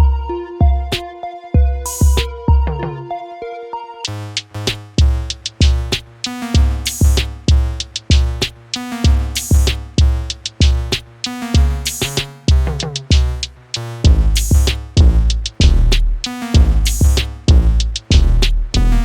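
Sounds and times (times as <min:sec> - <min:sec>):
electronic music with drum-machine beat: 0:00.0 - 0:19.0.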